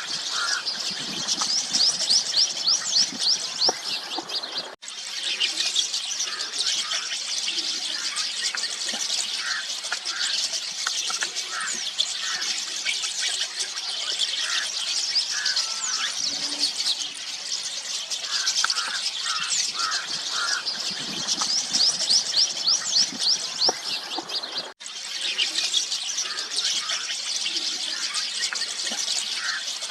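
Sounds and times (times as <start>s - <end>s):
starlings chattering: 0.0s - 29.9s.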